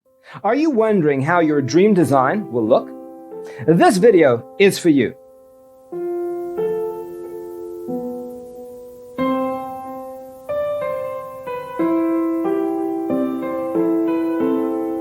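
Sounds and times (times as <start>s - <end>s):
gentle piano music: 0.1s - 15.0s.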